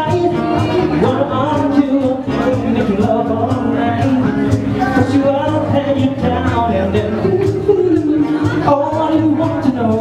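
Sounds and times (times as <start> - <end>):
acoustic guitar: 0.0 - 10.0
bass guitar: 0.0 - 10.0
person singing: 0.0 - 10.0.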